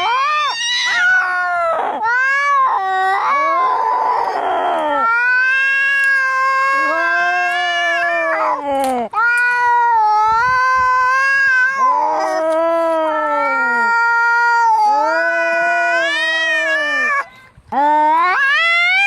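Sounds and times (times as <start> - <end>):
cats yowling: 0.0 - 17.3, 18.1 - 19.0.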